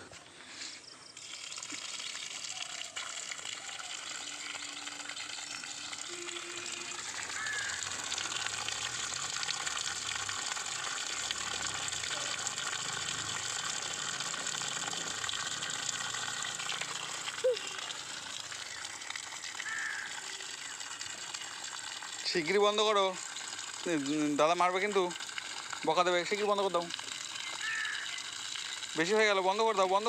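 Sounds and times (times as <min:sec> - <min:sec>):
water gushing from tap: 0:01.1 - 0:30.0
water splashing on foot and grass: 0:01.2 - 0:30.0.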